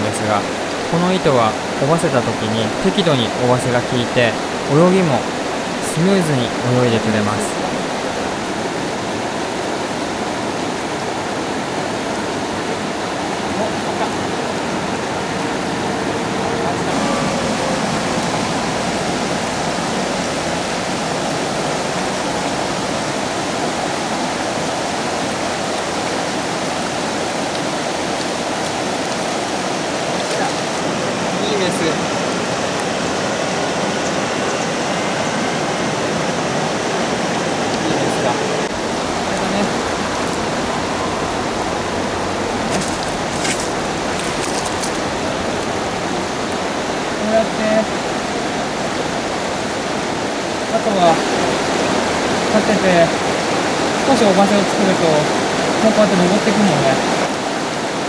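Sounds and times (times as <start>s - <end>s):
river current rushing: 0.0s - 58.0s.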